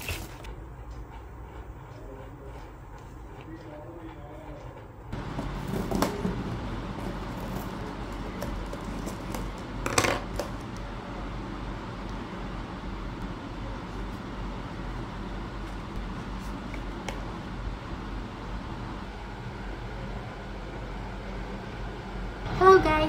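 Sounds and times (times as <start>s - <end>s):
room noise: 0.0s - 23.0s.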